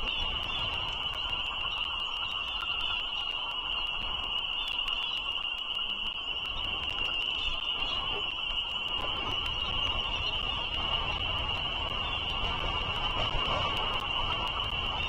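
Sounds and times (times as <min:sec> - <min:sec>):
frogs calling: 0:00.0 - 0:15.0.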